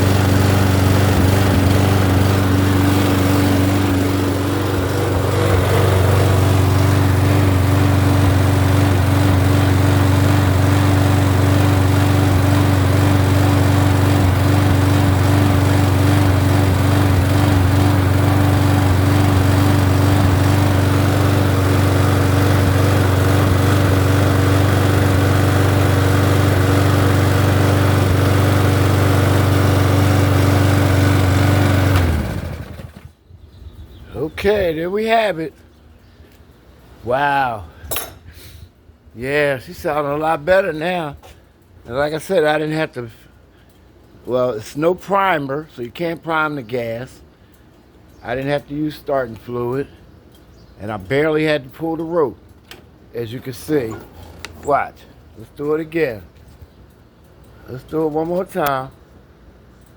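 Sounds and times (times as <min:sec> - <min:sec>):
lawn mower engine running: 0:00.0 - 0:33.2, 0:39.3 - 0:59.9.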